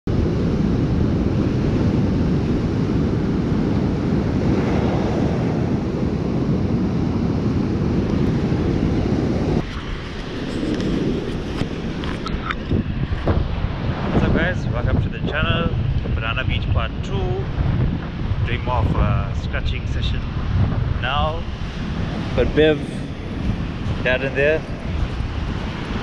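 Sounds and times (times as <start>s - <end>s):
wind buffeting microphone: 0.0s - 26.0s
ocean surf breaking: 0.1s - 26.0s.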